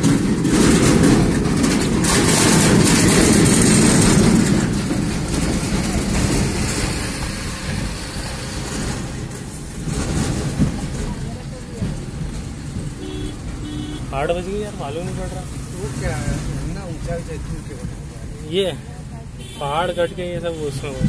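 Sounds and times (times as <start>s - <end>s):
rushing wind: 0.0s - 19.6s
car road noise: 0.0s - 21.0s.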